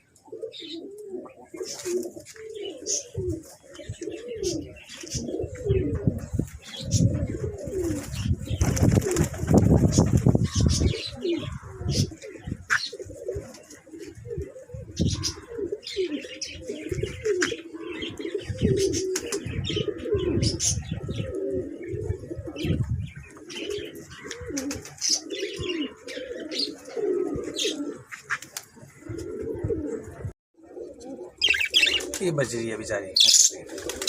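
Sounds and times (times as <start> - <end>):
pigeons cooing: 0.0 - 34.0
small birds chirping: 0.3 - 29.2, 30.9 - 34.0.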